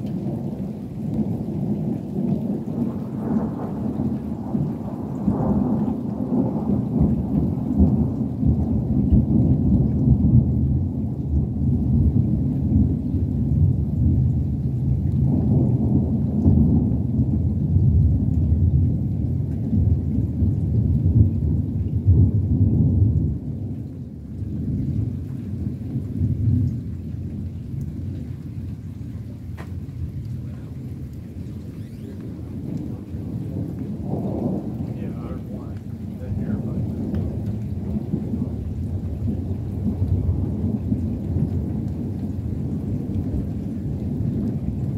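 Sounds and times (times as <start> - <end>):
thunder rumbling: 0.0 - 44.9.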